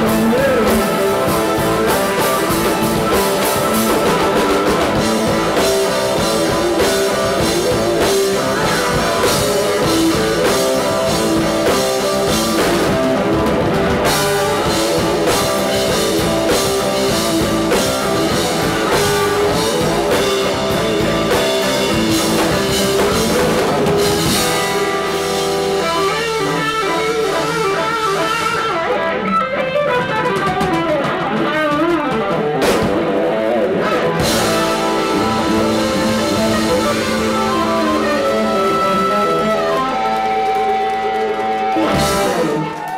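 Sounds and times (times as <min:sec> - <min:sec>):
drum kit: 0:00.0 - 0:42.9
electric guitar: 0:00.0 - 0:42.9.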